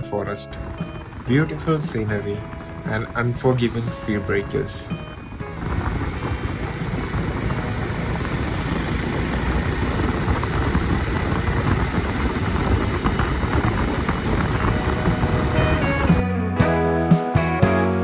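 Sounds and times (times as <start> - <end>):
wind rushing over microphone: 0.0 - 16.2
motorcycle engine and road rumble: 0.0 - 16.4.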